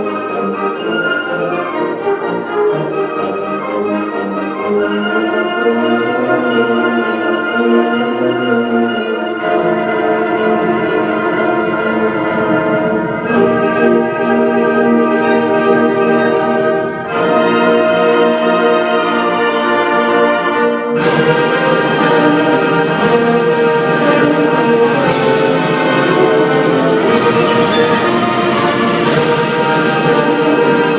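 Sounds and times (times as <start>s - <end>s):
orchestral strings and brass chords: 0.0s - 30.9s.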